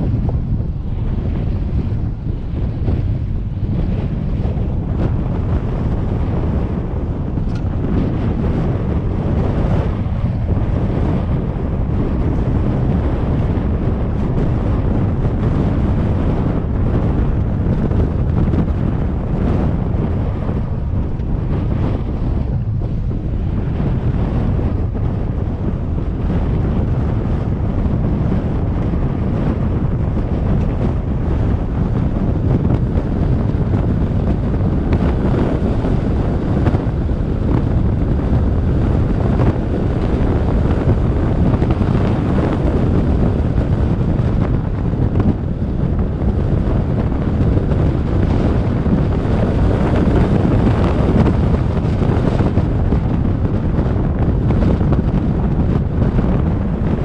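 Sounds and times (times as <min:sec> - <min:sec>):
vehicle noise on gravel: 0:00.0 - 0:57.0
wind rumble on microphone: 0:00.0 - 0:57.0.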